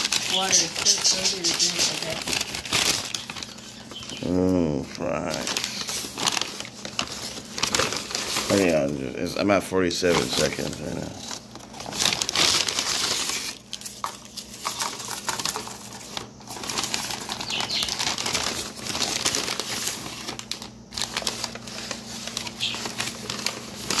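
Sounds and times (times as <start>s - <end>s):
paper bag rustling and crinkling: 0.0s - 24.0s.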